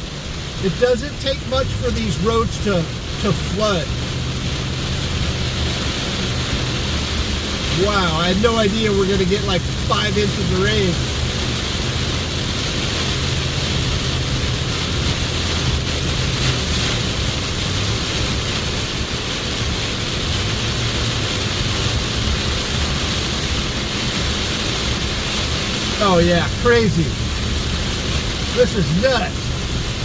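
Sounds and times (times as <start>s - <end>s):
car engine hum: 0.0s - 30.0s
rain and tyre spray: 0.0s - 30.0s.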